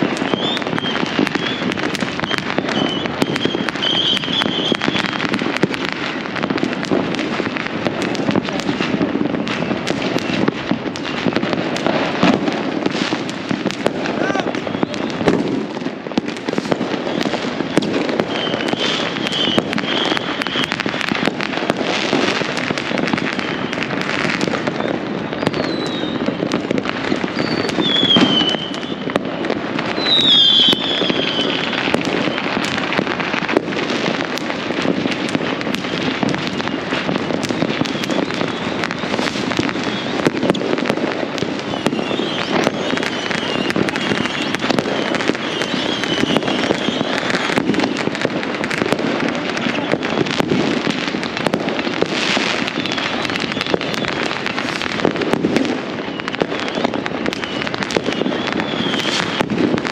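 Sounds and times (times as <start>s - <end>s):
firework whistles falling: 0.0s - 59.9s
fireworks crackling and banging: 0.0s - 59.9s.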